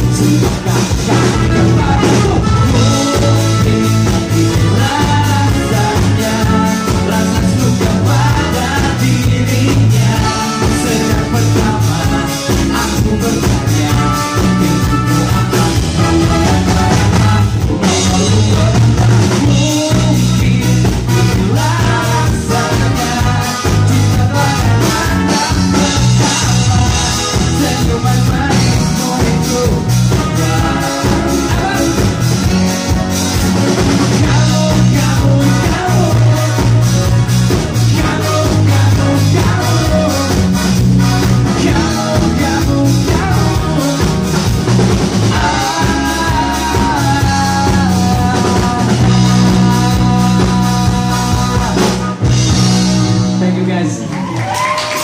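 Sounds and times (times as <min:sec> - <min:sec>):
man singing: 0:00.0 - 0:54.0
bass guitar: 0:00.0 - 0:55.0
drum kit: 0:00.0 - 0:55.0
electric guitar: 0:00.0 - 0:55.0.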